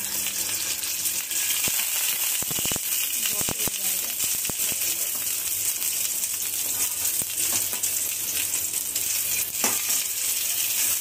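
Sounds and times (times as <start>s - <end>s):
sausage sizzling in a pan: 0.0s - 11.0s.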